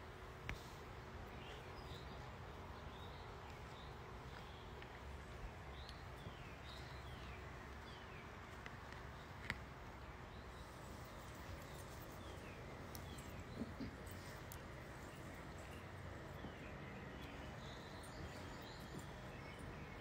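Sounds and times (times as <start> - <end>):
faint low hum: 0.0 - 20.0
bird chirping: 0.5 - 20.0.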